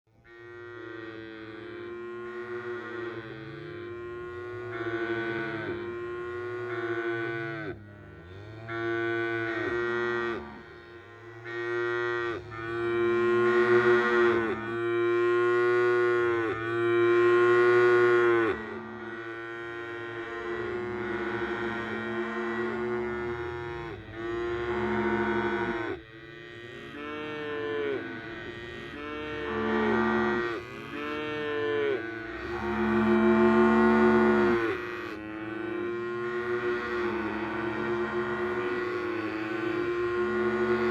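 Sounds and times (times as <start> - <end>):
cattle mooing: 0.5 - 40.9.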